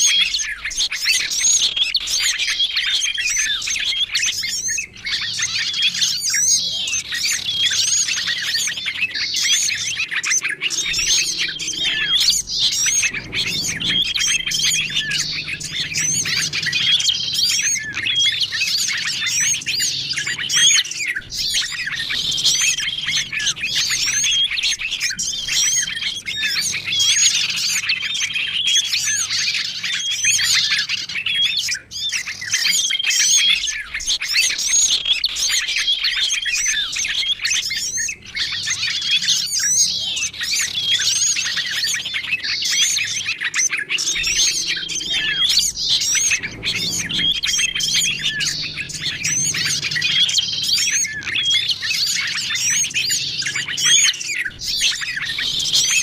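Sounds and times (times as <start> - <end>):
songbird chirps and twitters: 0.0 - 56.0.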